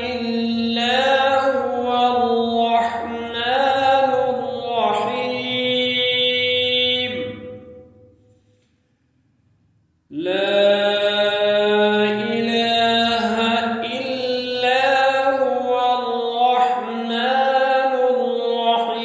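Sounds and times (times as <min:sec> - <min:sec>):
person chanting recitation: 0:00.0 - 0:08.1, 0:10.1 - 0:19.0.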